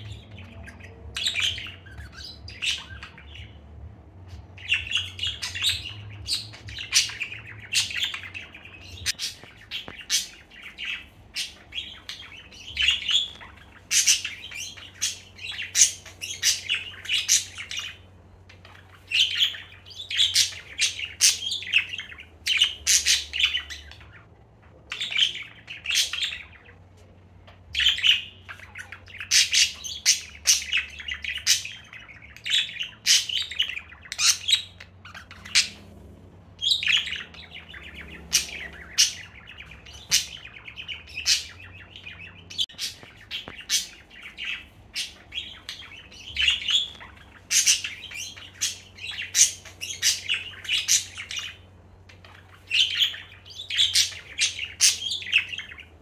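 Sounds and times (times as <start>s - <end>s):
budgerigar chirping: 0.0s - 3.6s, 4.5s - 24.3s, 27.6s - 35.9s, 36.6s - 56.0s.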